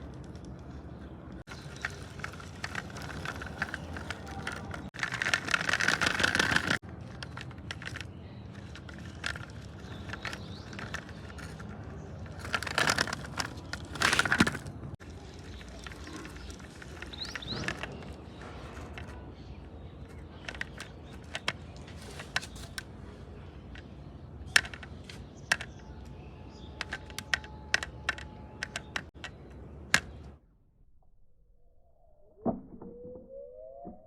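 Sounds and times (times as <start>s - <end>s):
clicks of small hard objects: 0.0s - 30.3s.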